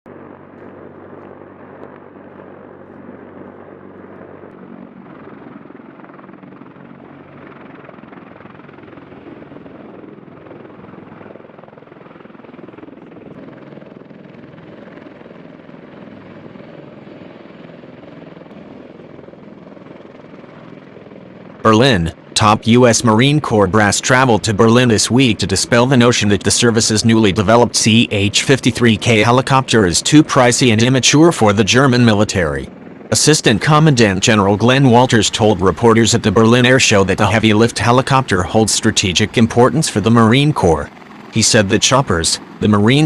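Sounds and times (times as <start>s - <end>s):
helicopter rotor and turbine: 0.1s - 43.0s.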